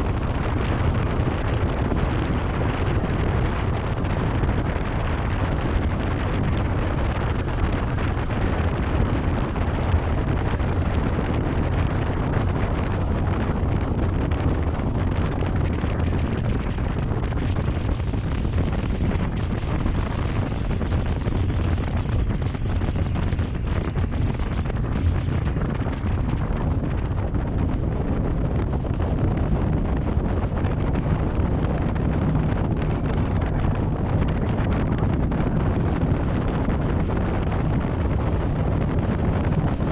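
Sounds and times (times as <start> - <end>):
boat engine rumble: 0.0 - 39.9
wind noise on microphone: 0.0 - 39.9.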